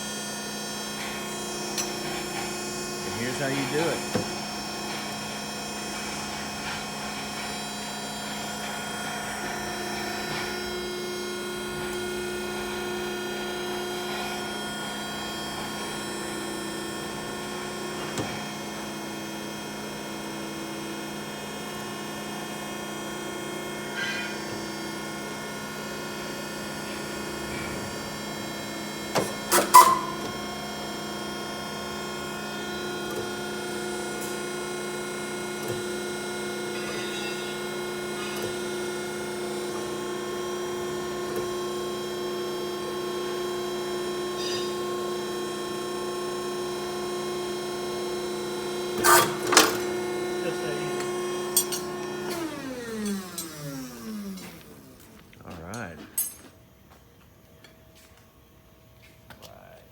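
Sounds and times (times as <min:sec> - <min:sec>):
electric hum of shop machinery: 0:00.0 - 0:59.9.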